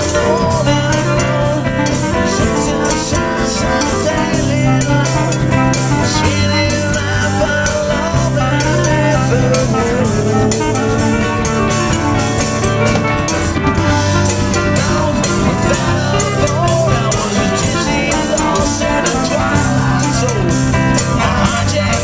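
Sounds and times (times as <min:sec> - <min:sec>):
drums: 0:00.0 - 0:22.0
guitar: 0:00.0 - 0:22.0
person singing: 0:00.0 - 0:22.0.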